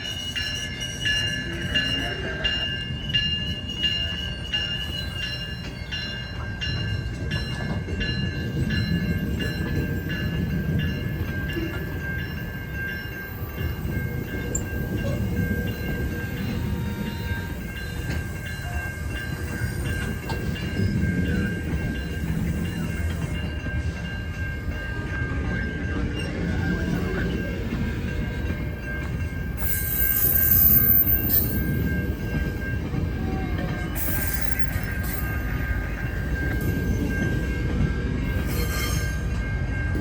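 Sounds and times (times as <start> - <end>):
crossing warning bell ringing: 0.0 - 40.0
train wheels clacking on rails: 0.0 - 40.0.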